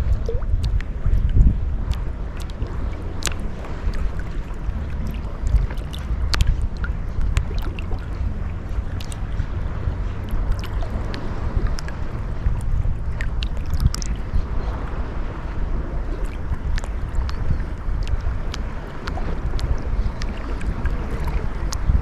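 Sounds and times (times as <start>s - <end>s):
sea waves lapping on beach: 0.0s - 22.0s
wind rumble on microphone: 0.0s - 22.0s.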